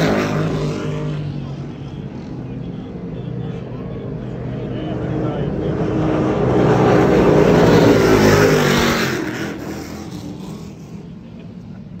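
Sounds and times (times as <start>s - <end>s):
powerboats passing at speed: 0.0s - 12.0s.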